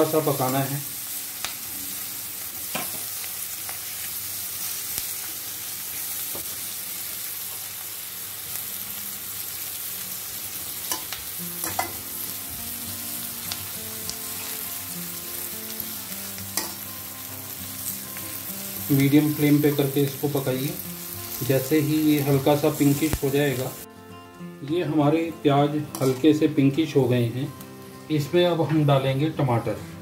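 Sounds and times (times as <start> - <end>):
onions and spices sizzling in oil: 0.0 - 23.9, 24.6 - 29.4.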